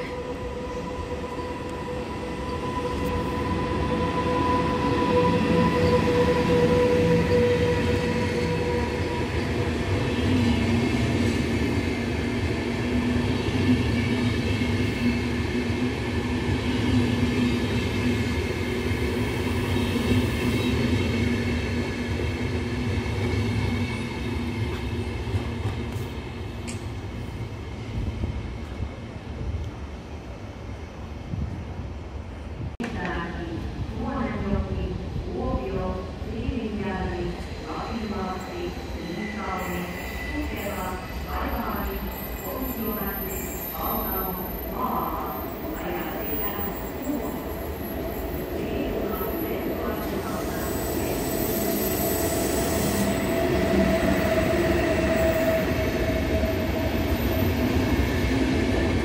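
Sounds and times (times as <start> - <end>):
electric locomotive whine: 0.0 - 31.5, 33.7 - 59.0.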